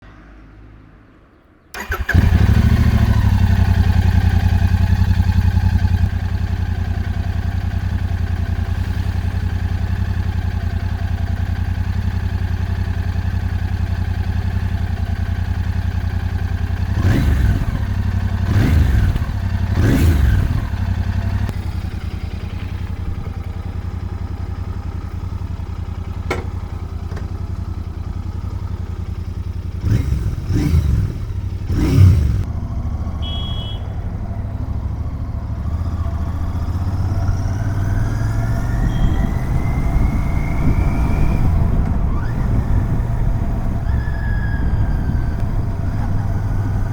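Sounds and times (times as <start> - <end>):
motorcycle engine idling: 1.7 - 46.9.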